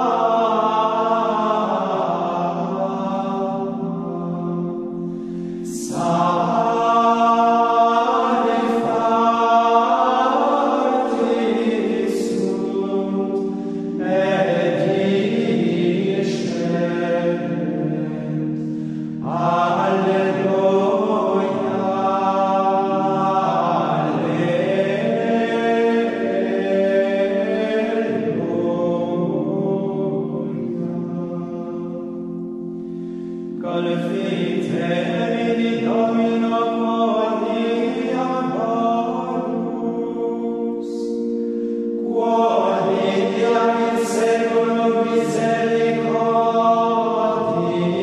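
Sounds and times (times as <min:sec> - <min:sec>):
choir chanting: 0:00.0 - 0:48.0.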